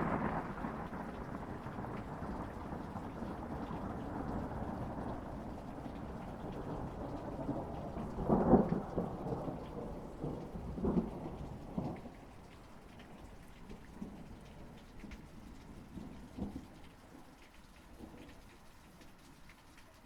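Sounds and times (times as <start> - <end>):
thunder rumbling: 0.0 - 16.7
rain hissing: 0.0 - 20.0.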